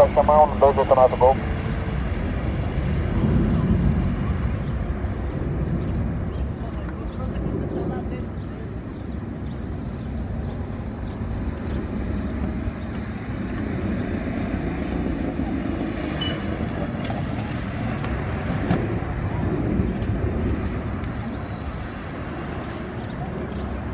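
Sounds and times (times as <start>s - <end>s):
jet engines deep rumble: 0.0s - 23.9s.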